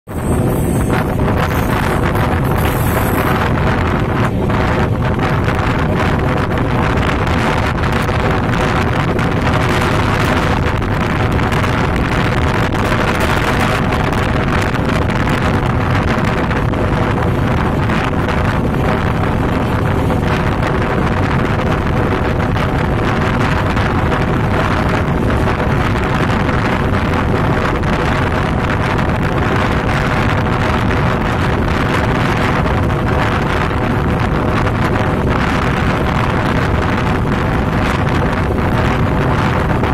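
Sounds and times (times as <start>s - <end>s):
moving vehicle running noise: 0.0s - 39.9s
train wheels rumbling on rails: 0.0s - 39.9s
wind rushing over microphone: 0.0s - 39.9s.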